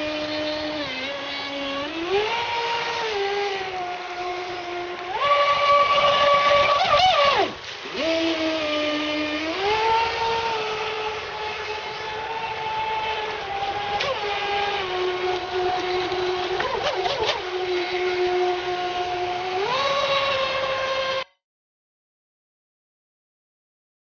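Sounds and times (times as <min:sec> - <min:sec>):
electric motor and water jet whining: 0:00.0 - 0:21.4.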